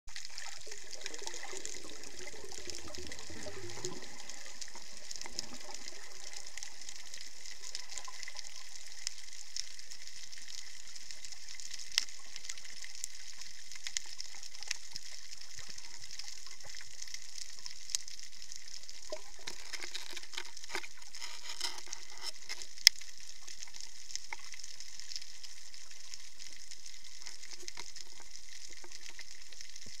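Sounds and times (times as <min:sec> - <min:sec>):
low falling gurgle: 0:00.1 - 0:30.0
steady underwater hiss: 0:00.1 - 0:30.0.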